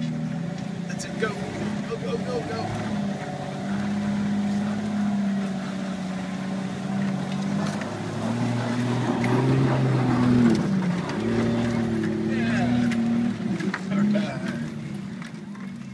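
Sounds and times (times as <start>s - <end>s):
off-road vehicle engine under load: 0.0s - 15.9s.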